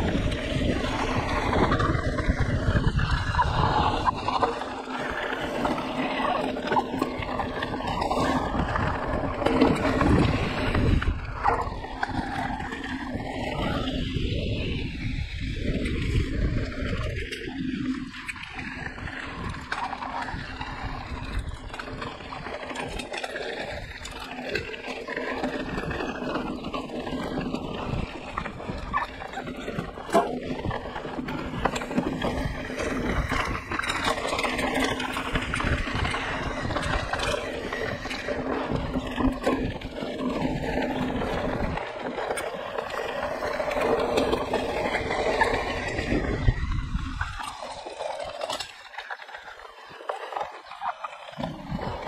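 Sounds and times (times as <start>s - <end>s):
bike tyre noise: 0.0s - 52.0s.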